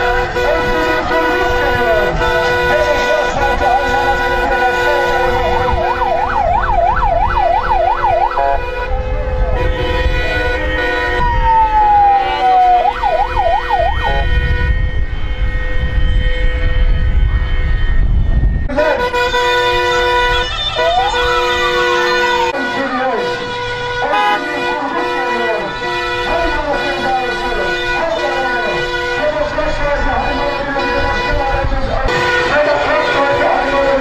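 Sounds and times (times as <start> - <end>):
electronic vehicle siren: 0.0 - 34.0.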